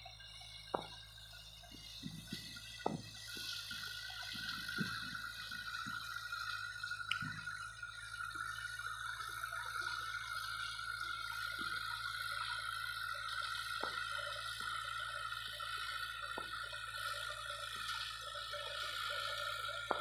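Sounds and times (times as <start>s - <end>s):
constant high whine: 0.0s - 20.0s
distant tractor engine drone: 0.0s - 20.0s.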